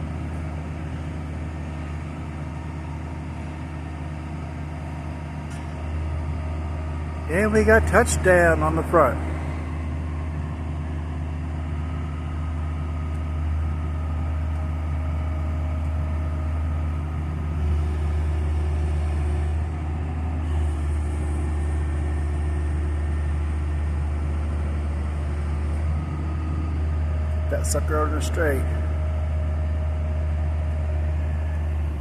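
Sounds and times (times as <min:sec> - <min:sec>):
large vehicle engine humming: 0:00.0 - 0:32.0.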